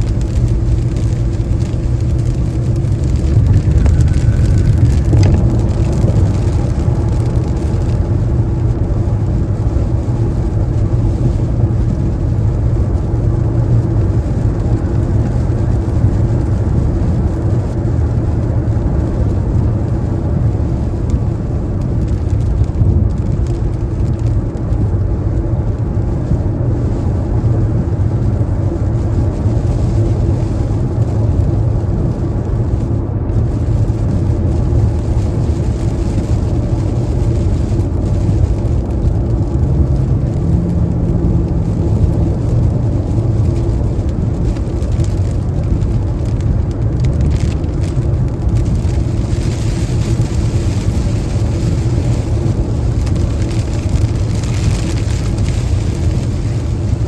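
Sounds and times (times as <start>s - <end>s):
car tyre and road noise: 0.0s - 57.0s.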